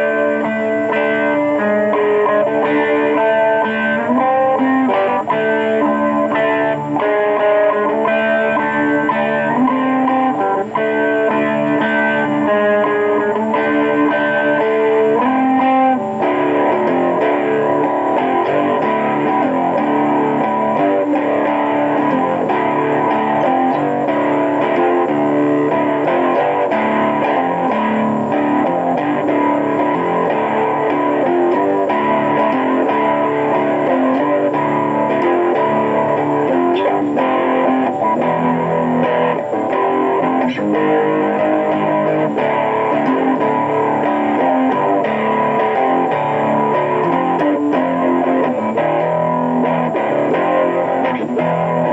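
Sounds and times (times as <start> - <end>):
electric guitar playing: 0.0 - 51.9.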